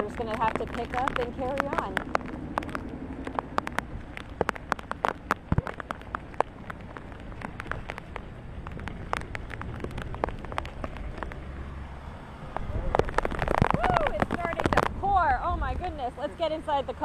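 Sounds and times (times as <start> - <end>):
raindrops ticking near microphone: 0.0 - 17.0
steady rain hiss: 0.0 - 17.0.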